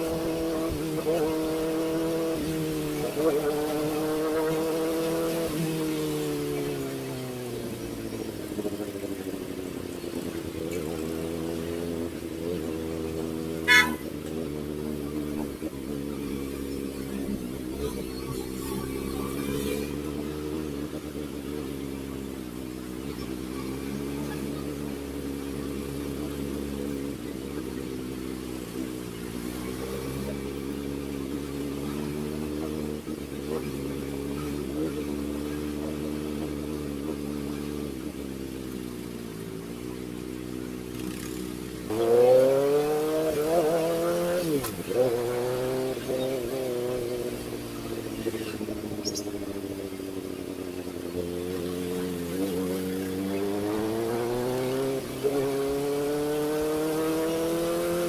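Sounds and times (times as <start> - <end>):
motorcycle engine at low revs: 0.0 - 58.0.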